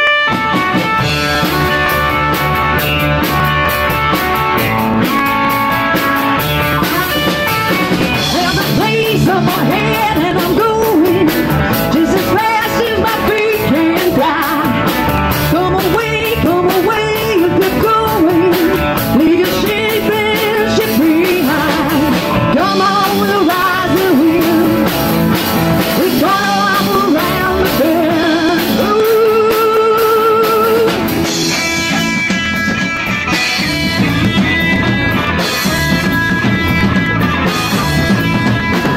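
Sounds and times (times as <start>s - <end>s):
blues-rock band playing: 0.0s - 38.9s
lead electric guitar: 0.0s - 38.9s.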